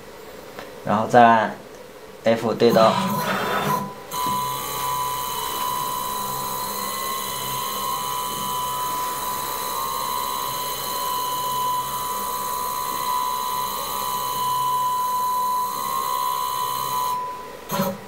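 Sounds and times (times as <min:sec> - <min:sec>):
high-pitched motor whine: 0:02.5 - 0:18.0.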